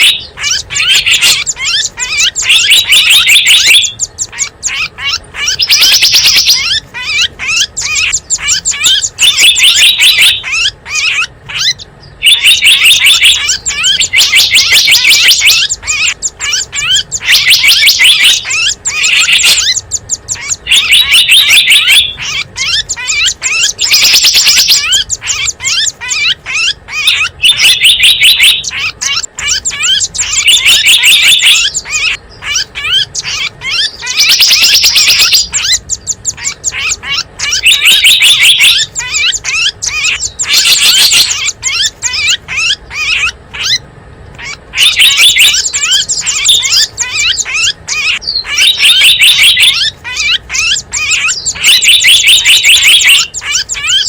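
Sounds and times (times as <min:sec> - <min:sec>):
buzzy bird trills: 0:00.0 - 0:54.0
songbirds chirping: 0:00.0 - 0:54.0.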